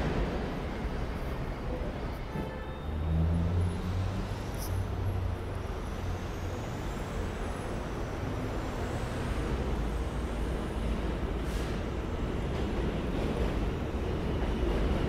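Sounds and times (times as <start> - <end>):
subway trains rumbling: 0.0 - 15.0.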